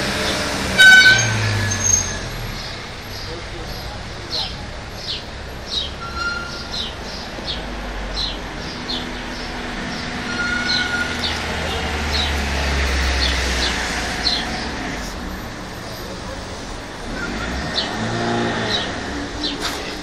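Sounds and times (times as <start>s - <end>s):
passing vehicle rumble: 0.0s - 20.0s
small birds chirping: 1.8s - 20.0s.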